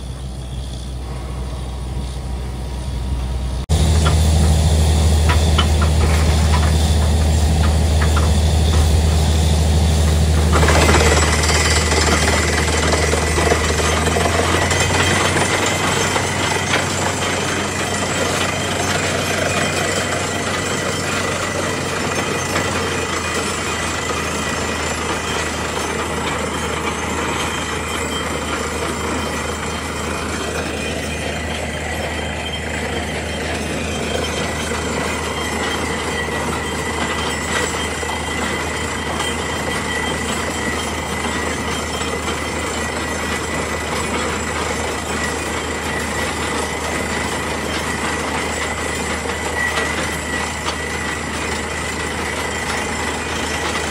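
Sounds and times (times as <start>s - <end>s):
drilling rig drone: 0.0s - 53.9s
thin steady whine: 0.0s - 53.9s.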